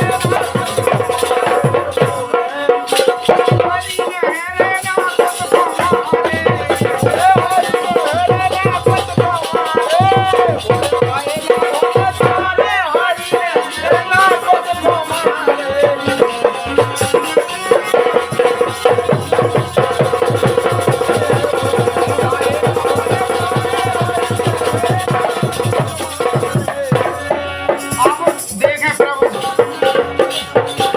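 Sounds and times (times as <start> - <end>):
fast dense drumming: 0.0 - 30.9
rattle-like percussion: 0.0 - 30.9.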